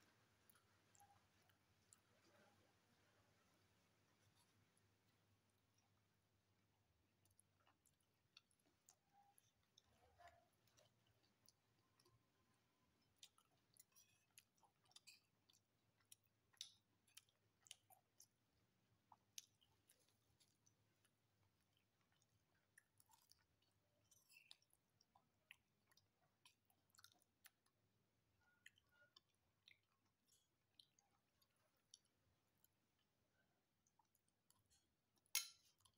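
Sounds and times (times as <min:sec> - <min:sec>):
chewing food: 0:00.0 - 0:35.9.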